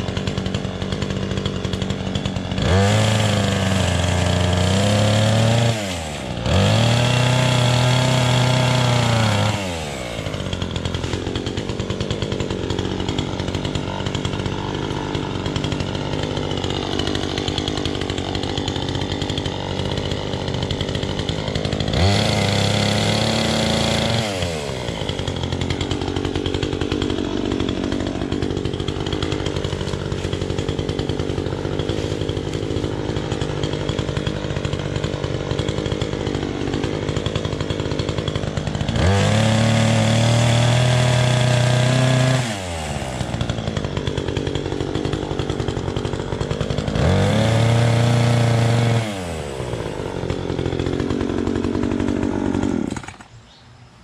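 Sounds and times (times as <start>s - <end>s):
chainsaw cutting branches: 0.0s - 53.6s.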